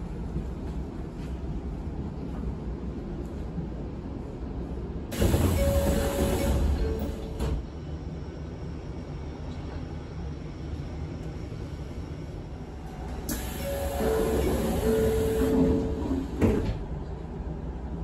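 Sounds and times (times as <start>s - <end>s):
electric train cabin rumble: 0.0s - 18.0s.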